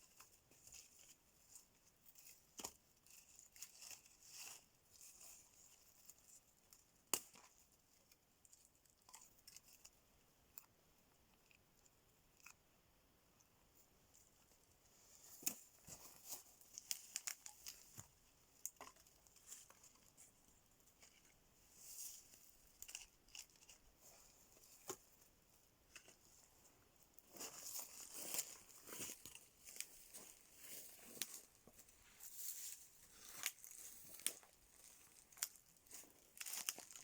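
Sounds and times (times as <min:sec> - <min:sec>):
dry rustling and crinkling: 0:00.0 - 0:10.7, 0:14.1 - 0:37.0.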